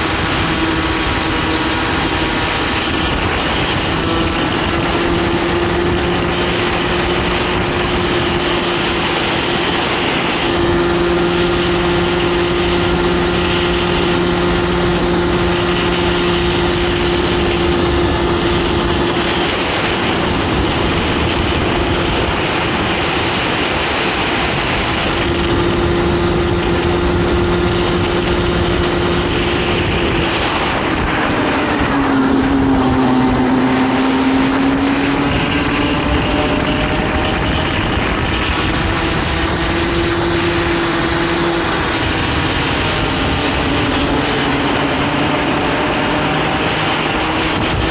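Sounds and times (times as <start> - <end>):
kart engine at high revs: 0.0 - 47.9
second lower engine: 0.0 - 47.9
wind rush: 0.0 - 47.9.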